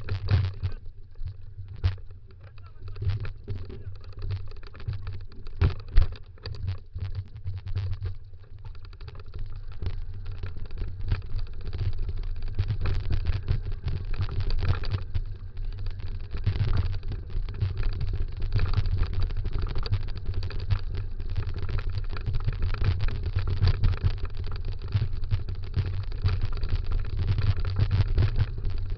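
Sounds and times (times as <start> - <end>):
wheels rolling over dirt trail: 0.0 - 28.9.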